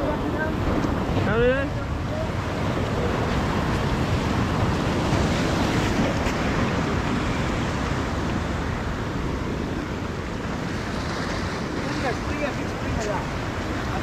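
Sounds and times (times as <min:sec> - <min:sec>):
surf washing on rocky shore: 0:00.0 - 0:14.0
wind buffeting microphone: 0:00.0 - 0:14.0.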